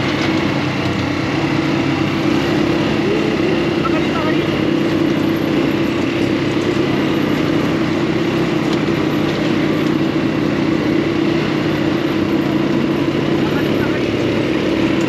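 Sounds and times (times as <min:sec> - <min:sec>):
buggy engine running steadily: 0:00.0 - 0:15.0.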